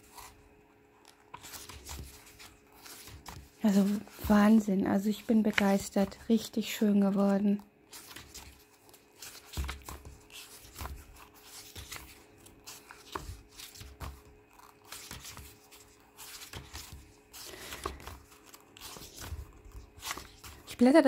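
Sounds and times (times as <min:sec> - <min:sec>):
book pages being turned: 0:00.0 - 0:21.0.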